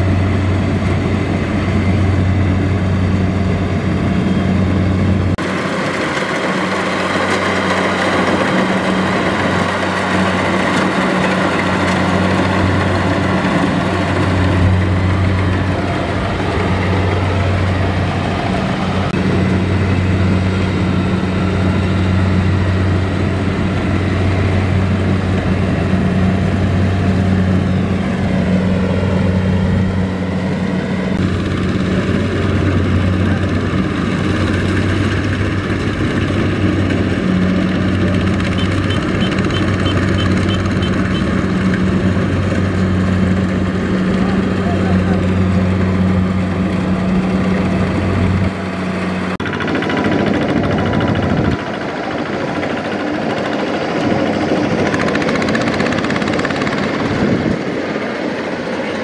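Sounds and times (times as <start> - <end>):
combine harvester diesel engine: 0.0 - 59.0.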